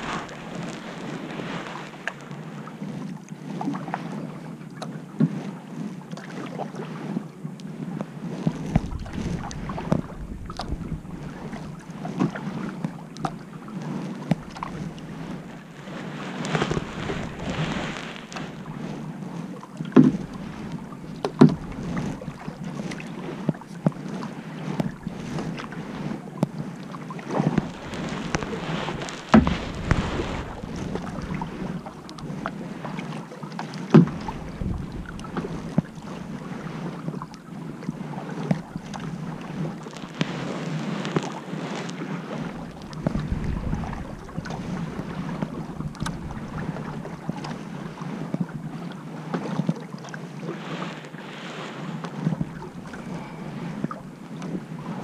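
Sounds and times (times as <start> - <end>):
kayak paddle splashing: 0.0 - 55.0.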